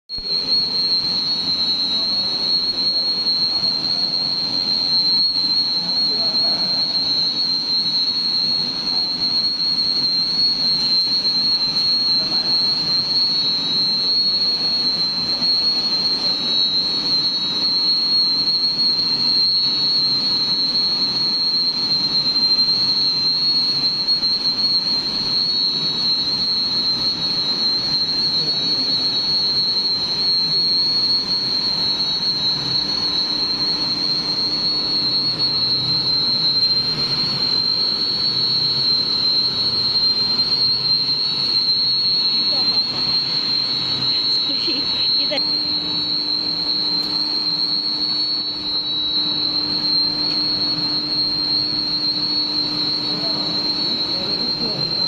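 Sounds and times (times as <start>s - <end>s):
high-pitched machine whine: 0.1s - 55.0s.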